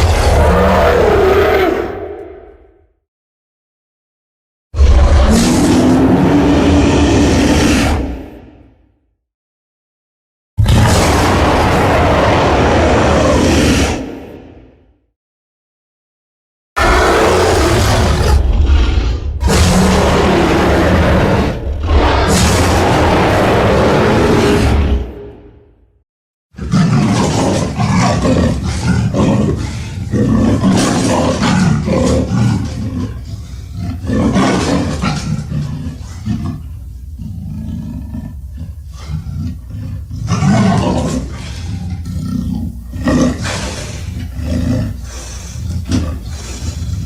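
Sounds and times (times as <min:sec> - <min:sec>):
monster roars: 0:00.0 - 0:02.8, 0:04.8 - 0:08.8, 0:10.6 - 0:14.8, 0:16.8 - 0:25.7, 0:26.6 - 0:36.6, 0:37.2 - 0:47.0.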